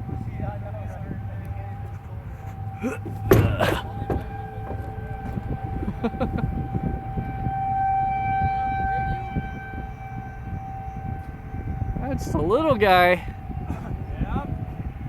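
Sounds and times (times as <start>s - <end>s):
tornado warning siren: 0.0s - 15.0s
wind rumbling on microphone: 0.0s - 15.0s.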